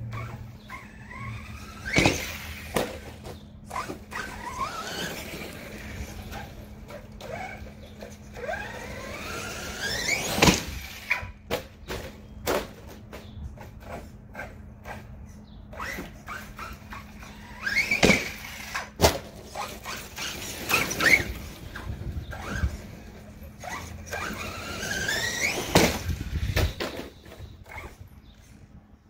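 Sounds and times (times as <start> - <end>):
electric motor whining: 0.0 - 11.4, 15.7 - 28.5
toy truck thumping the ground: 0.2 - 13.2, 15.8 - 22.8, 23.6 - 27.9.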